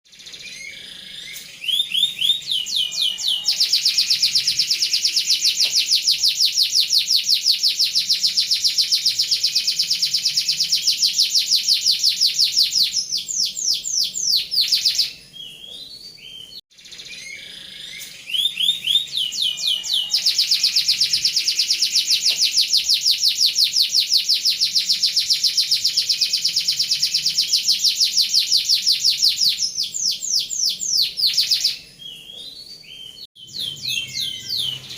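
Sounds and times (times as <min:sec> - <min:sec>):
canary singing rapid trills: 0:00.1 - 0:34.9.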